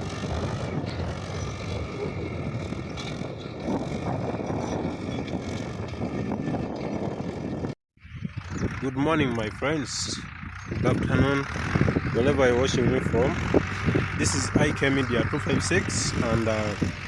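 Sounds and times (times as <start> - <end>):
tractor engine rumbling: 0.0 - 17.0.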